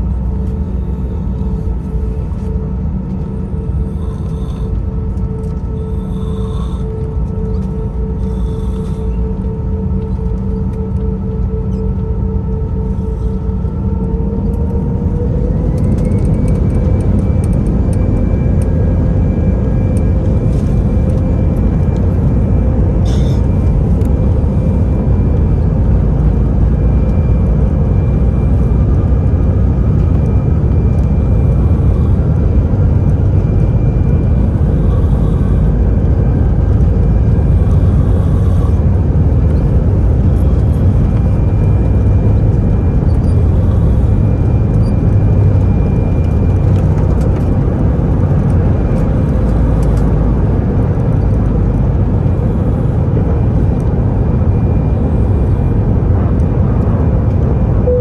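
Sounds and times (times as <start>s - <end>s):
faint whine: 0.0s - 58.0s
vehicle engine low rumble: 0.0s - 58.0s.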